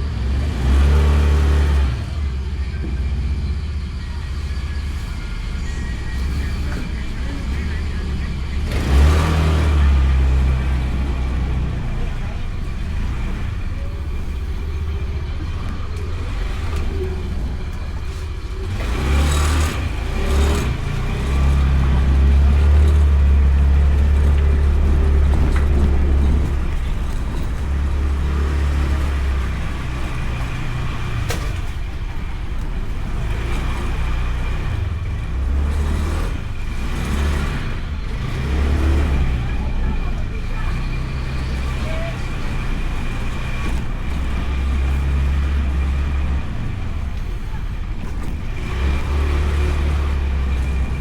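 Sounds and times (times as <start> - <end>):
scooter engine rumble: 0.0 - 51.0.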